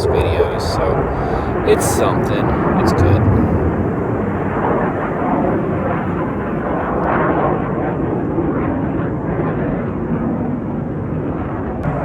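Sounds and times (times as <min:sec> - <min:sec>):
jet aircraft flying by: 0:00.0 - 0:12.0.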